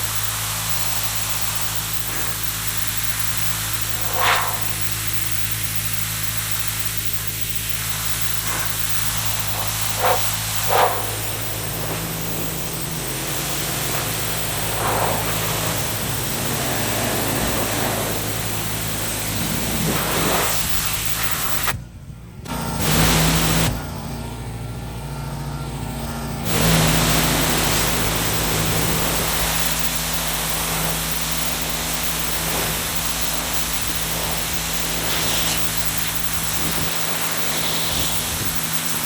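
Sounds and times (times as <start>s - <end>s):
pressure washer spraying: 0.0s - 21.8s, 22.5s - 39.0s
constant hum: 0.0s - 39.0s.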